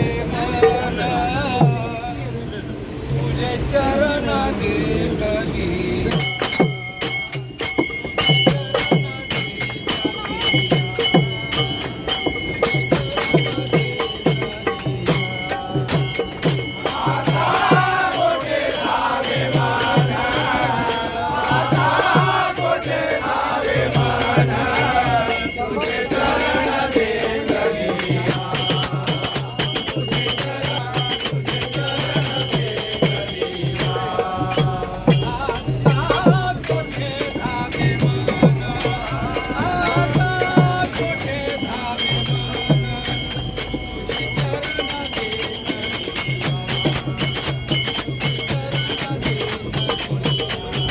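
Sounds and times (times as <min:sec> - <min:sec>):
chorus singing: 0:00.0 - 0:50.9
hand cymbals: 0:05.7 - 0:50.9
drum beat: 0:06.1 - 0:50.9.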